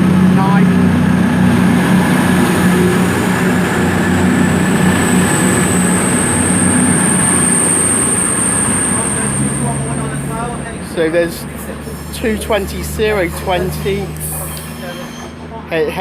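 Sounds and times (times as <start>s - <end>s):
diesel train engines droning: 0.0s - 16.0s.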